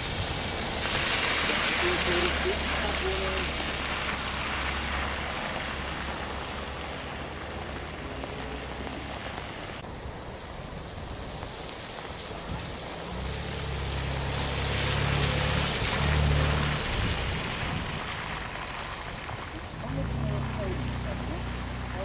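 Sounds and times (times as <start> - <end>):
car engine approaching: 0.0 - 22.0
car engine pulling away: 0.0 - 22.0
rain and wet tarmac hiss: 0.0 - 22.0.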